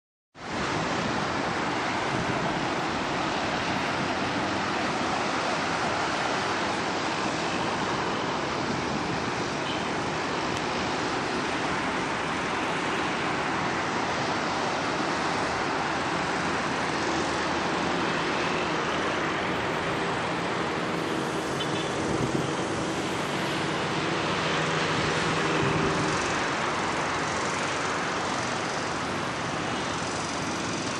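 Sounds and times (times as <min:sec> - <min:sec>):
steady rushing noise: 0:00.4 - 0:30.9.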